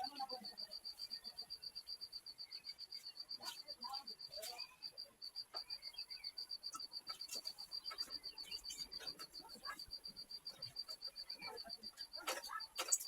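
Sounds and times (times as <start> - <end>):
insect chirping pulses: 0.0 - 13.0.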